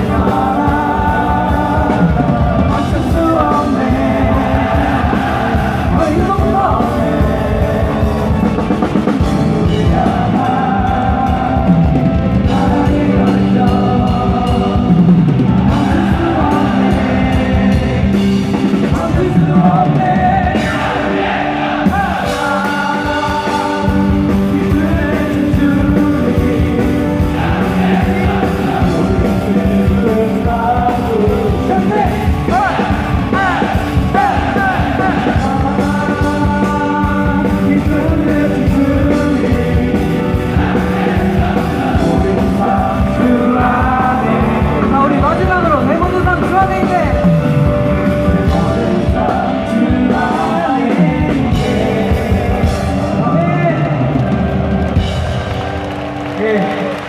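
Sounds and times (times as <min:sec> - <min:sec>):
people singing: 0:00.0 - 0:46.5, 0:48.0 - 0:55.4
band with drums playing: 0:00.0 - 0:57.0.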